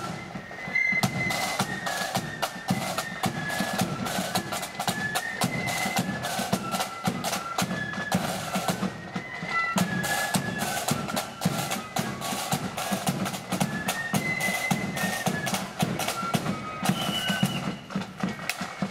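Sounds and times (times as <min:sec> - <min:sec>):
flutes playing melody: 0:00.0 - 0:18.9
rapid snare drumming: 0:00.0 - 0:18.9.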